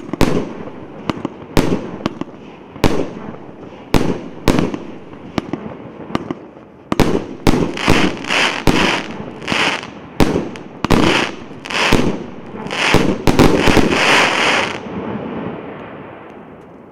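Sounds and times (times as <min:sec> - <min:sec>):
firework bangs with hiss: 0:00.0 - 0:16.3
firework rumble: 0:00.0 - 0:16.9.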